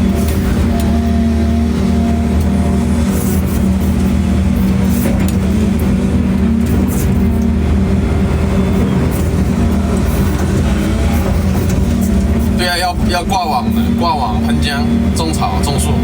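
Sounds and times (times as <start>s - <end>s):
construction machine engine humming: 0.0s - 16.0s.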